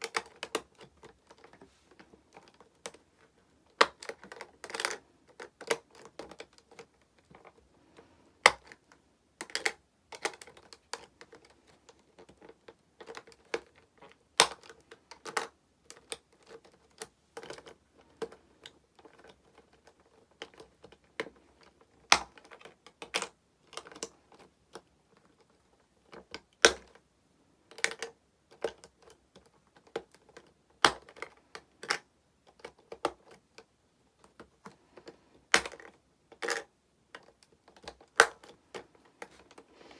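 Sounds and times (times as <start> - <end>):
plastic toy pieces clicking: 2.3 - 7.5, 8.4 - 21.3, 22.0 - 25.5, 27.7 - 33.4, 34.2 - 38.9.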